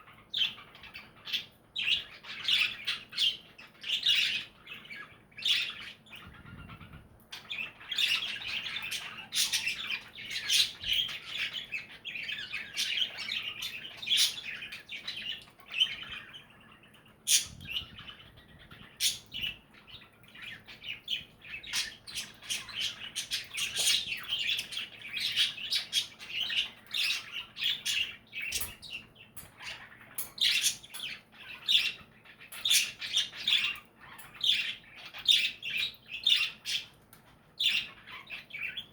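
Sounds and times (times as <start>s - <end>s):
budgies chirping: 0.0s - 38.9s.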